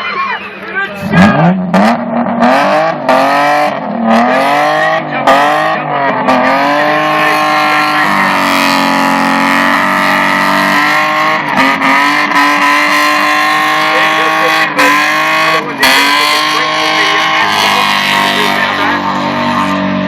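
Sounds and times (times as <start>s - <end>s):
car engine revving high: 1.0s - 20.0s.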